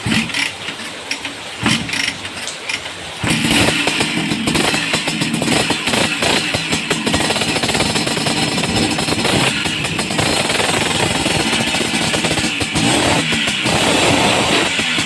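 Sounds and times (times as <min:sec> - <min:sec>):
scooter engine running: 0:00.0 - 0:02.3, 0:03.2 - 0:15.0.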